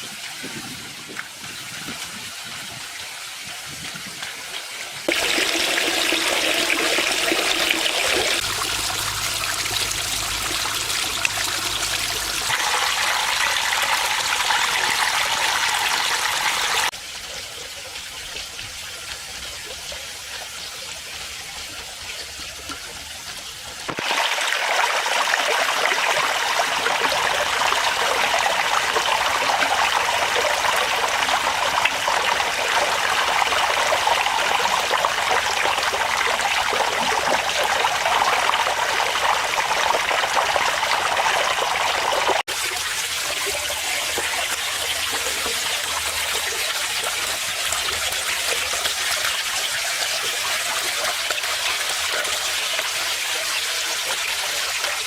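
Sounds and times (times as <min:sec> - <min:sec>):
water trickling over waterfall: 0:00.0 - 0:55.0.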